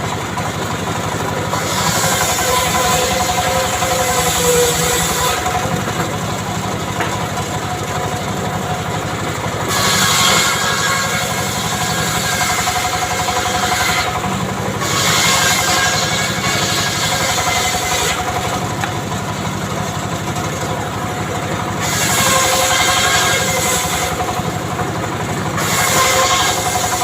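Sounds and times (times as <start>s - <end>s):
saw engine running: 0.0s - 27.0s.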